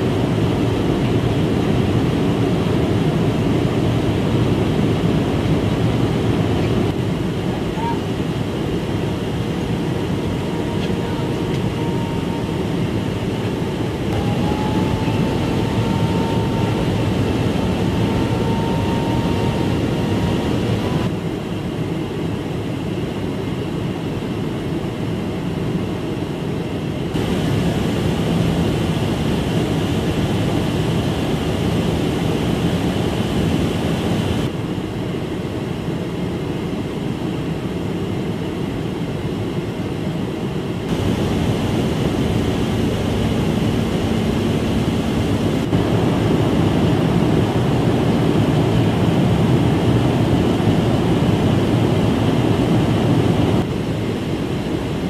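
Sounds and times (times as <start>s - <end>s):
jet aircraft cabin noise: 0.0s - 55.0s.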